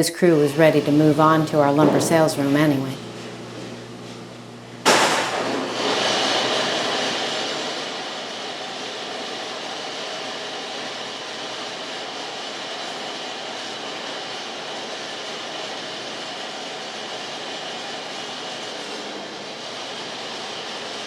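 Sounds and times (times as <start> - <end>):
band sawmill cutting log: 0.0 - 21.0.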